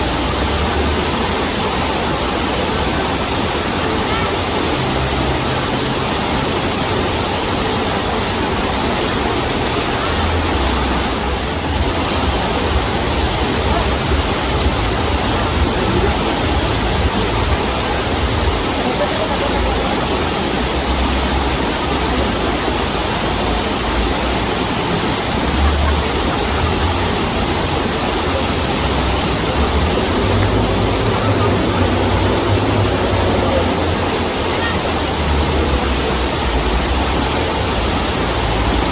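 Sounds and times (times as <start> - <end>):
deep rumble: 0.0 - 38.9
waterfall rushing: 0.0 - 38.9.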